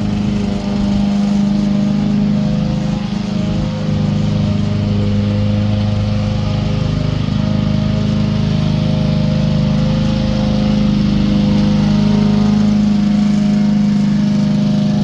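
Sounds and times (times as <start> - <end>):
lawn mower motor droning: 0.0 - 15.0.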